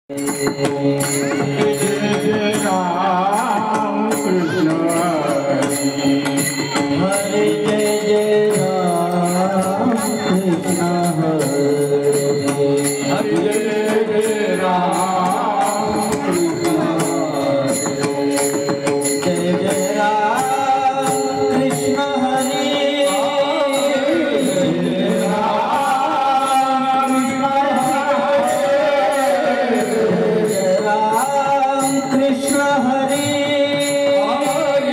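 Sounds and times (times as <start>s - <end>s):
high ticking beat: 0.1s - 34.9s
man singing ornamented line: 0.1s - 34.9s
sustained accompaniment: 0.1s - 34.9s.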